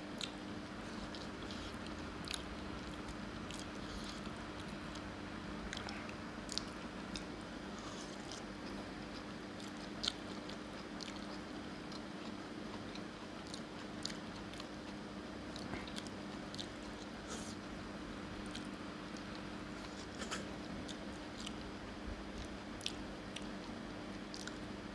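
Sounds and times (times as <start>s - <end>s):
steady low hum: 0.0s - 24.9s
person chewing: 0.2s - 17.7s, 18.4s - 24.7s.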